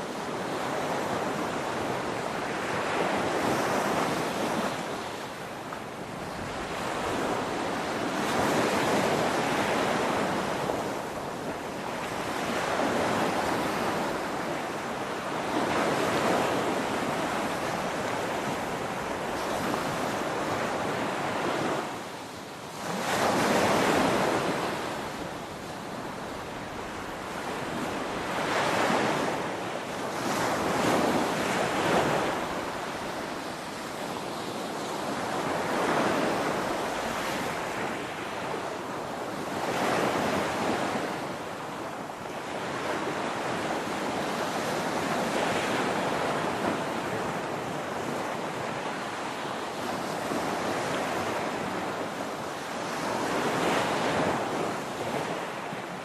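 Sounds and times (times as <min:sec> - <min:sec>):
ocean waves washing on shore: 0:00.0 - 0:56.0
wind: 0:00.0 - 0:56.0.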